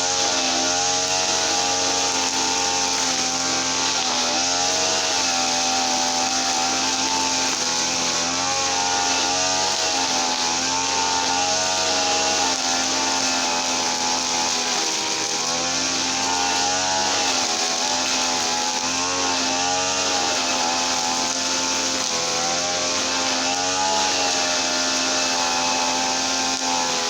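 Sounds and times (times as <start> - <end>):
small petrol engine running: 0.0 - 27.0.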